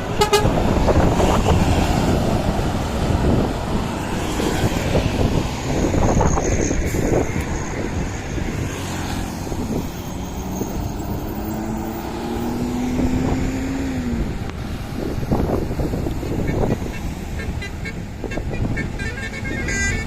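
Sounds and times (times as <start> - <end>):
engine drone rising in pitch: 0.0 - 16.2
heavy traffic rumble: 0.0 - 20.0.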